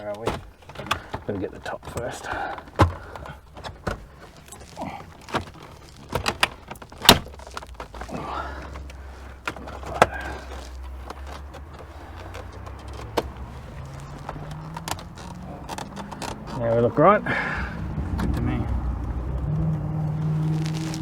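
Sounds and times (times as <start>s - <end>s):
plastic trim clicks and knocks: 0.0s - 16.9s.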